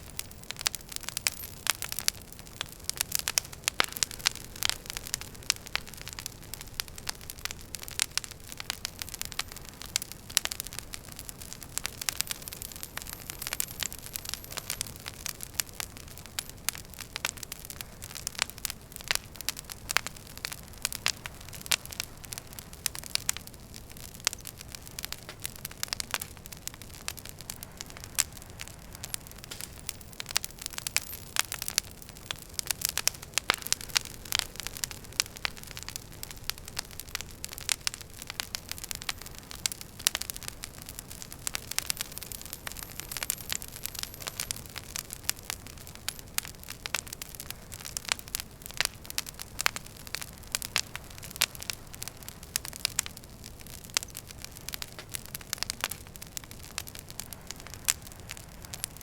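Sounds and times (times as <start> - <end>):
flames hissing and rumbling: 0.0 - 59.0
wood fire pops and snaps: 0.0 - 59.0.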